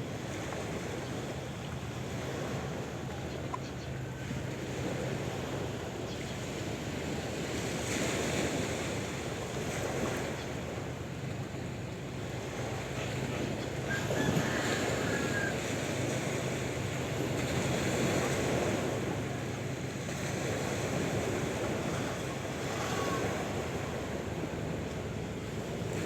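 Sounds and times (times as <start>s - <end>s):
sea waves washing: 0.0s - 26.0s.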